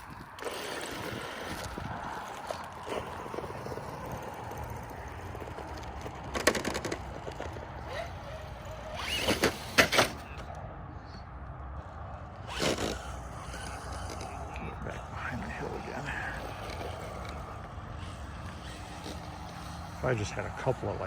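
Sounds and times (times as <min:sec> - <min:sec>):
electric toy truck whirring: 0:00.0 - 0:10.6, 0:12.2 - 0:21.0.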